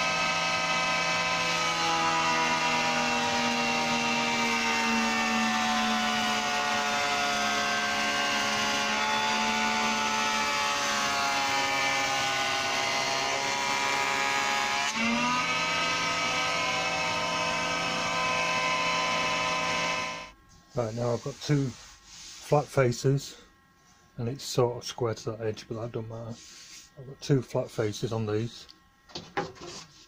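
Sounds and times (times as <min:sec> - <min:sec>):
planer machine whine: 0:00.0 - 0:23.7, 0:25.8 - 0:30.0.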